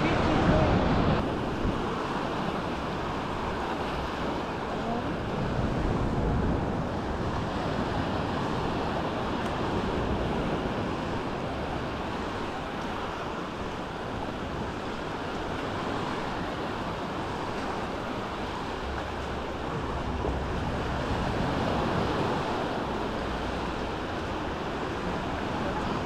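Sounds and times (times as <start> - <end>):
waves washing onto beach: 0.0 - 26.0
wind buffeting microphone: 0.0 - 26.0.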